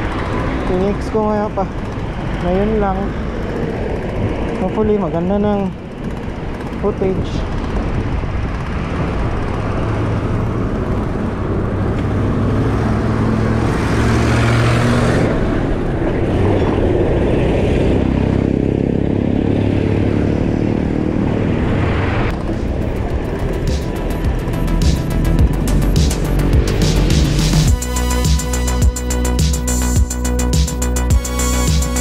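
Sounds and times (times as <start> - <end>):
vehicles passing: 0.0 - 32.0
wind and road noise: 0.0 - 32.0.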